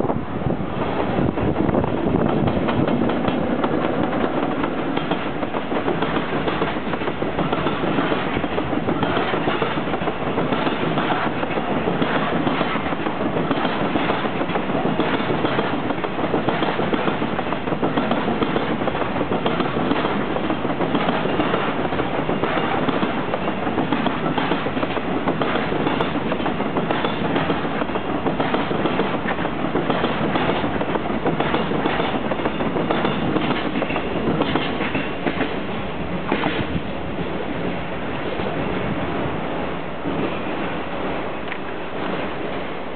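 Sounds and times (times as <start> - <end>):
freight train wheels clattering: 1.8 - 36.9.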